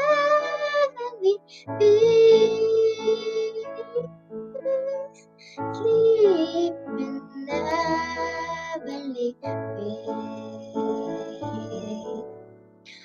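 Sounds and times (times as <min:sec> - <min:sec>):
girl singing slow song: 0:00.0 - 0:13.0.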